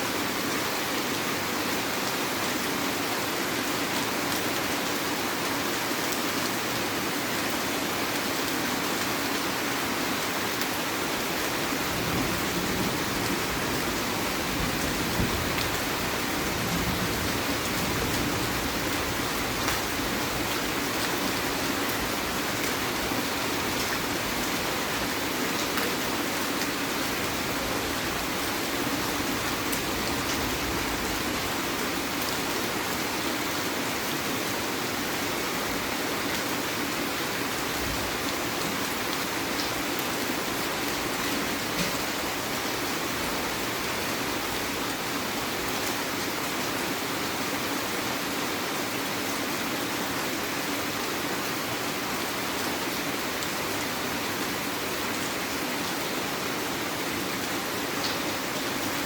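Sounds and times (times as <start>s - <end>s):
heavy rain falling: 0.1s - 59.0s.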